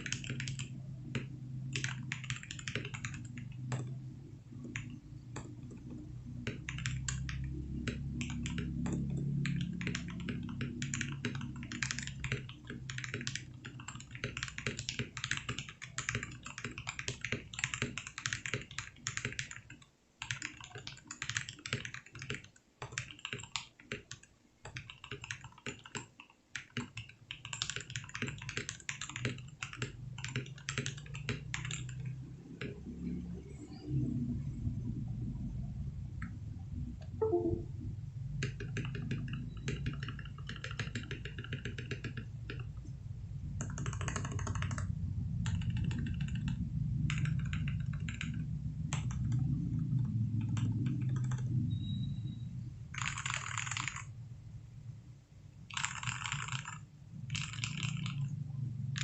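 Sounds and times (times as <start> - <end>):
typing on mechanical keyboard: 0.0 - 4.0, 4.6 - 32.9, 38.4 - 42.8, 43.6 - 51.5, 52.9 - 54.1, 55.7 - 58.4.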